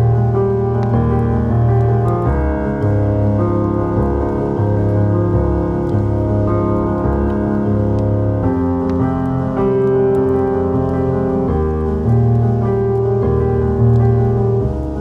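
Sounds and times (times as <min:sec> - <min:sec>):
fireplace crackling: 0:00.0 - 0:15.0
soft slow piano music: 0:00.0 - 0:15.0.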